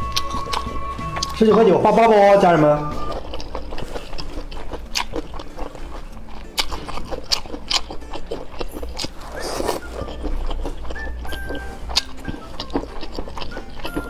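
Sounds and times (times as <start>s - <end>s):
wet chewing and slurping: 0.0s - 1.8s, 2.9s - 14.0s.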